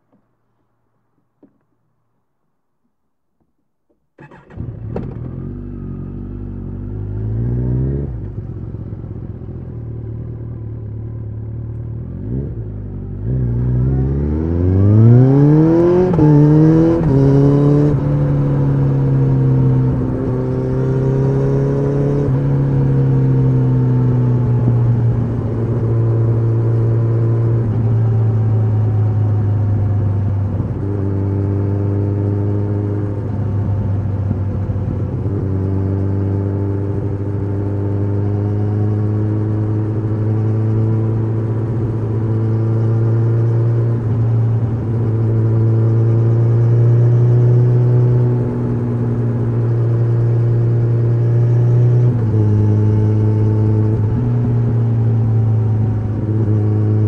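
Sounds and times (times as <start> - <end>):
motorcycle engine idling and accelerating: 4.2 - 57.0.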